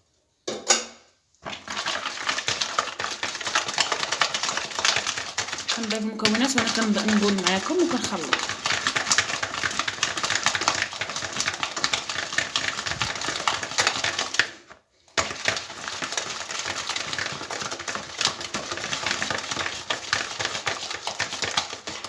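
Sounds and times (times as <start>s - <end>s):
whisk clicking against bowl: 1.7s - 14.6s, 15.2s - 22.0s.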